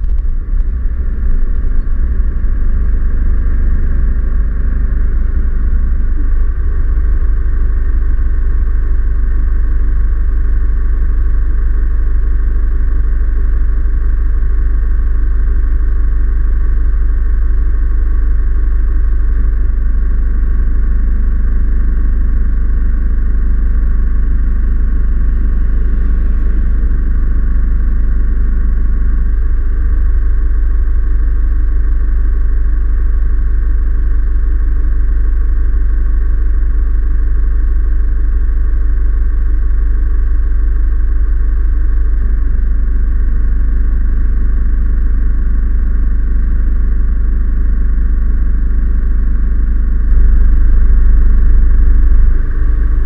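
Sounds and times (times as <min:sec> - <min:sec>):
vehicle engine rumbling: 0:00.0 - 0:37.7, 0:44.1 - 0:53.0.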